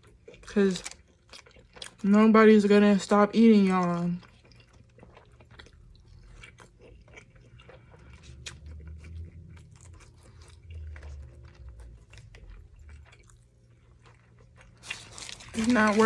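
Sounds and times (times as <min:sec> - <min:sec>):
person chewing crunchy food: 0:00.0 - 0:02.1, 0:03.6 - 0:16.0.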